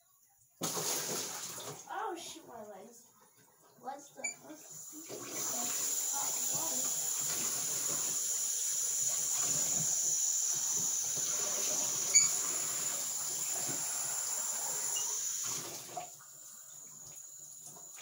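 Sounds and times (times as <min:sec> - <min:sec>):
water running from bathtub tap: 0:00.1 - 0:18.0.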